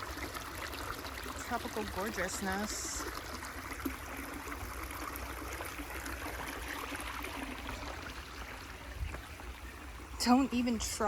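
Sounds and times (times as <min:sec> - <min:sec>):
creek trickling over rocks: 0:00.0 - 0:11.0.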